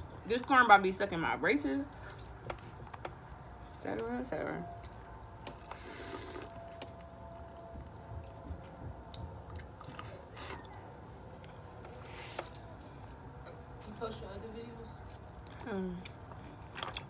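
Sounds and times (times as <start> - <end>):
chewing corn on the cob: 1.9 - 13.9, 15.0 - 17.0.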